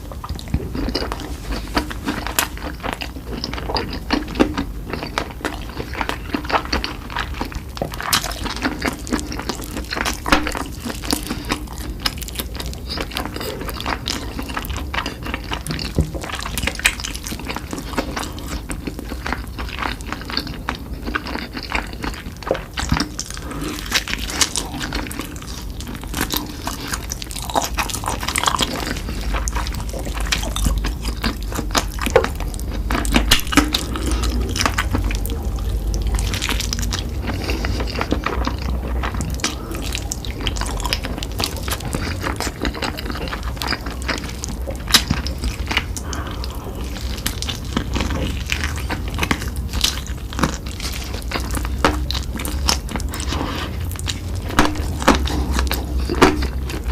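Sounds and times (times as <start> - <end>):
chewing with wet mouth clicks: 0.0 - 56.9.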